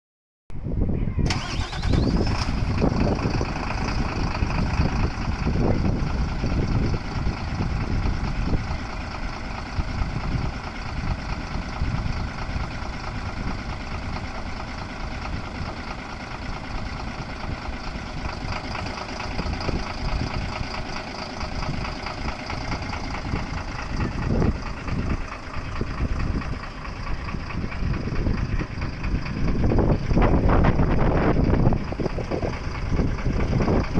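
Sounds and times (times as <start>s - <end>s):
bus diesel engine idling: 0.8s - 33.9s.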